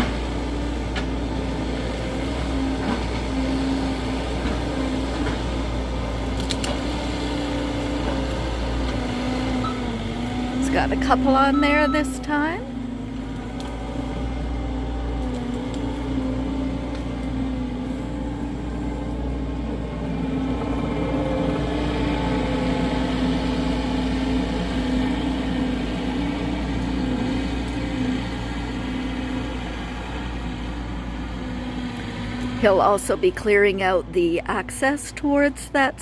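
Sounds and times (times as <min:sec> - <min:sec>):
skid steer engine running: 0:00.0 - 0:36.0.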